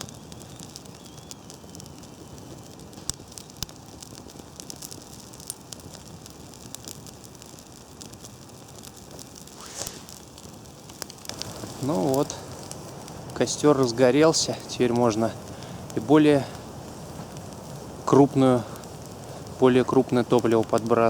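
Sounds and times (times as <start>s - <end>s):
campfire crackling: 0.0s - 21.0s
damp twigs hissing: 0.0s - 21.0s.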